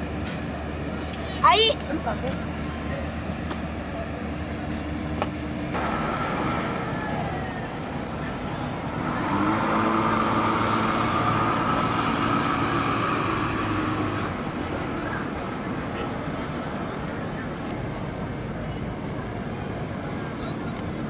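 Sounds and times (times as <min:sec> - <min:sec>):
low engine drone: 0:01.9 - 0:21.0.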